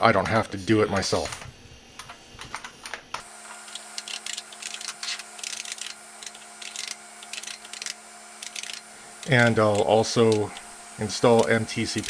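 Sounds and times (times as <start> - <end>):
computer keyboard typing: 0.0 - 10.7
steady machine hum: 0.0 - 12.0.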